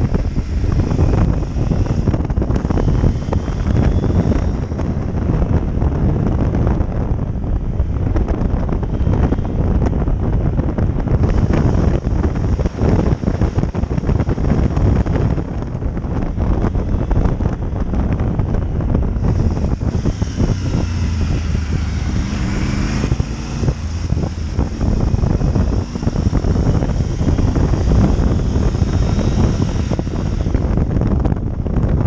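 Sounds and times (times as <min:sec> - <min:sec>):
motorcycle engine: 0:00.0 - 0:32.0
rising whine: 0:00.0 - 0:32.0
road noise: 0:00.0 - 0:32.0
wind buffeting microphone: 0:00.0 - 0:32.0.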